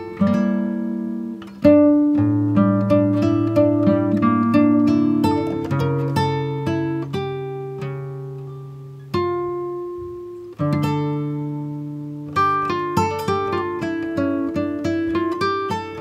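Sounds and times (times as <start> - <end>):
plucked string instrumental: 0.0 - 16.0.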